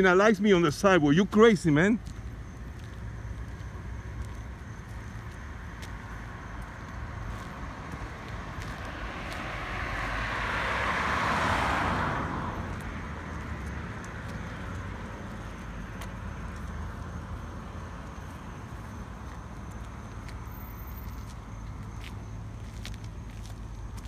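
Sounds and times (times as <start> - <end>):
car passing: 0.0 - 24.0
low traffic rumble: 0.0 - 24.0.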